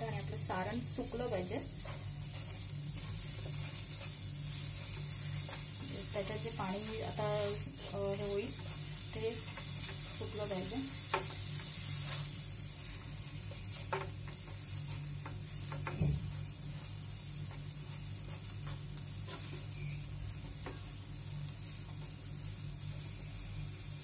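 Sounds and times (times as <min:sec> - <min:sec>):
sizzling in a frying pan: 0:00.0 - 0:24.0
spatula scraping and tapping pan: 0:01.8 - 0:21.0.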